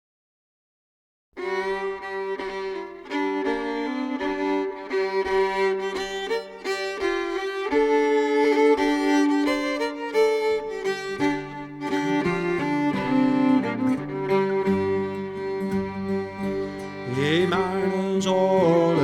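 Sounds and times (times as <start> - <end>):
fiddle playing folk tune: 1.4 - 19.0.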